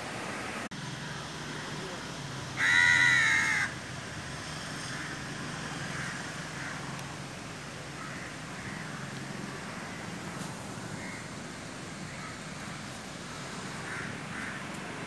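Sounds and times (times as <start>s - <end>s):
birds calling: 1.1s - 3.8s, 4.8s - 15.0s.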